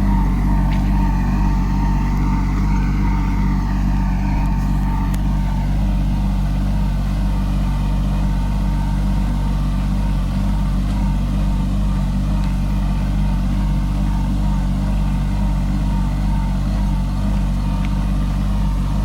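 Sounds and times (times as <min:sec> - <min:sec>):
faint high whine: 0:00.0 - 0:19.0
tractor diesel engine running: 0:00.0 - 0:19.0.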